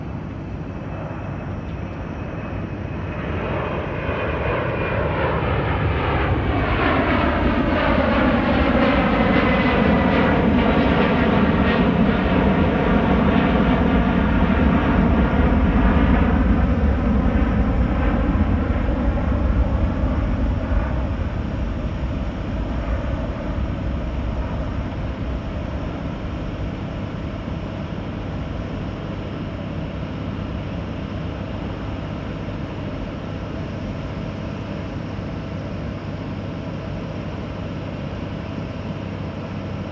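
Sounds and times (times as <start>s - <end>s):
jet airliner flying past: 0.0s - 39.9s.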